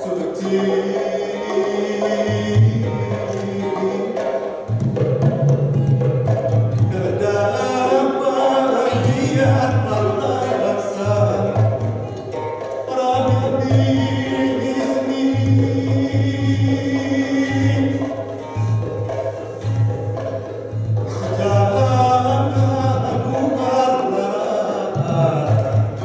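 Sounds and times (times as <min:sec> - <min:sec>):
barrel hand drum: 0:00.0 - 0:26.0
kettle gongs and metallophones: 0:00.0 - 0:26.0.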